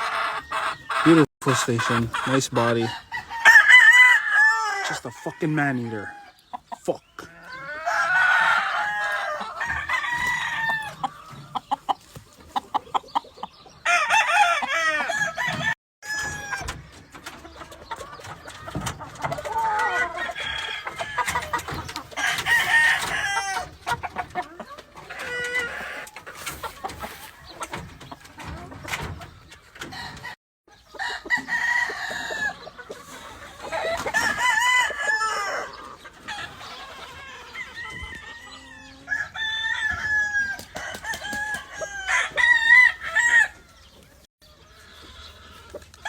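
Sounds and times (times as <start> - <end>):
chickens clucking: 0.0 - 46.0
roosters crowing: 0.0 - 46.0.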